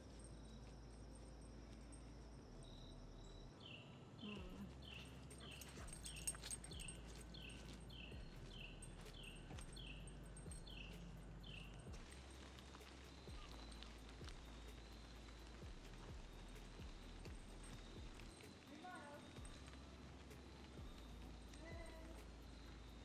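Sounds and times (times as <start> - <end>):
bird whistling faintly: 4.2 - 23.0.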